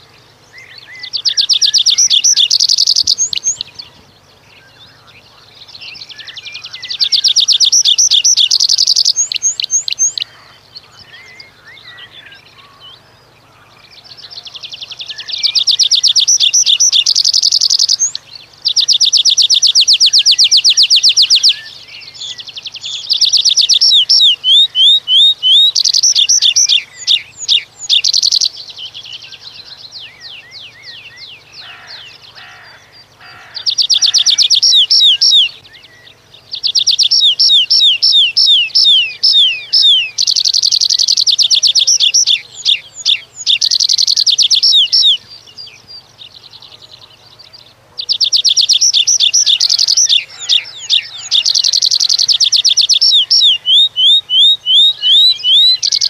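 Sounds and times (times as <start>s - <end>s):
bird singing high thin notes: 0.0s - 33.0s, 33.6s - 47.1s, 48.0s - 56.0s.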